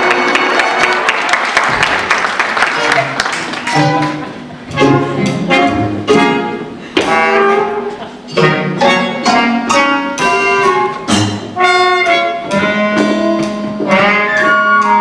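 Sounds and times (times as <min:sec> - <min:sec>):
jazzy orchestral brass music: 0:00.0 - 0:15.0.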